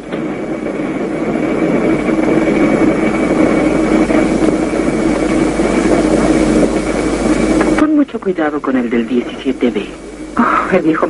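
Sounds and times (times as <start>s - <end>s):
faint high whine: 0.0s - 11.0s
jet engine cabin noise: 0.0s - 11.0s.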